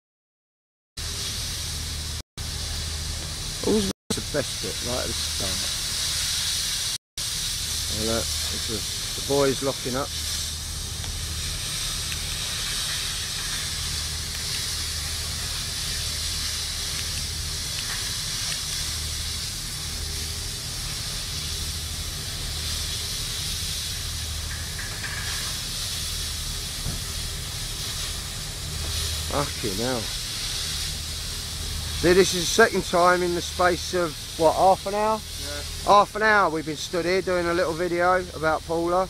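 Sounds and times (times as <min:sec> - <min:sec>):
gas flare hissing: 0:01.0 - 0:39.0.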